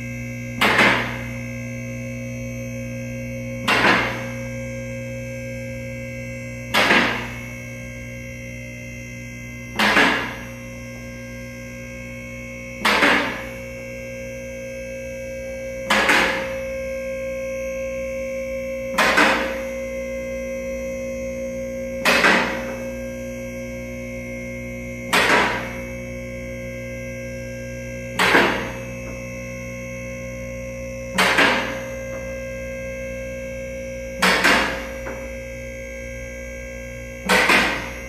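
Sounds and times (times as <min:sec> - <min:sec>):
hydraulic pump motor humming: 0:00.0 - 0:38.0.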